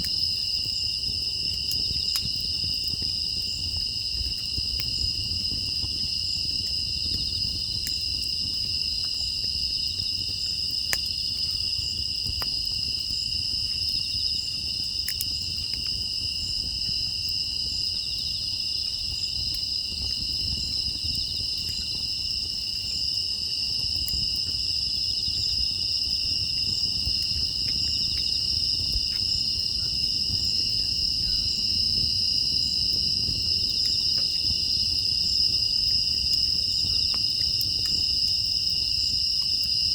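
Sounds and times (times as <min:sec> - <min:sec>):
crickets trilling: 0:00.0 - 0:39.9
wood fire crackles: 0:00.0 - 0:39.9.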